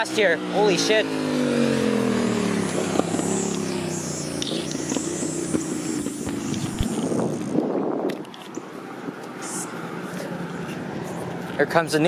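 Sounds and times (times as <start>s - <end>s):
traffic noise: 0.0s - 12.0s
vehicle speeding past: 0.0s - 12.0s.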